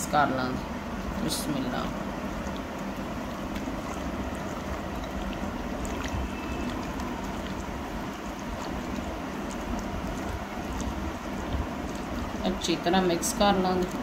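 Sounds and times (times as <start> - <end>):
low background rumble: 0.0 - 14.0
wet squelches of marinade: 0.0 - 14.0.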